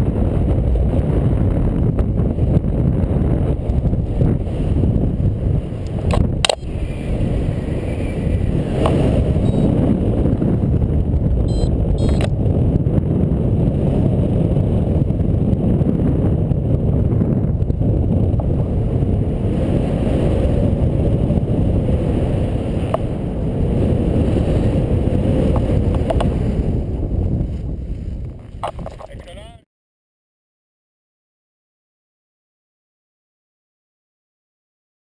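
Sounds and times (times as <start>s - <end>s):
wind buffeting microphone: 0.0s - 29.6s.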